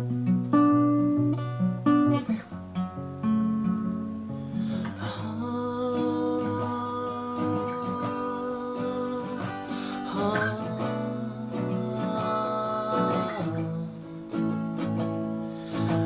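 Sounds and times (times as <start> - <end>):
acoustic guitar strummed chords: 0.0 - 16.0.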